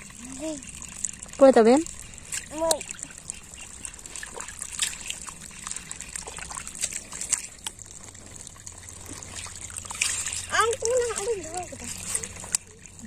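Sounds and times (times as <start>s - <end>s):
hand scooping muddy water: 0.0s - 13.0s
water trickling off fingers: 0.0s - 13.0s.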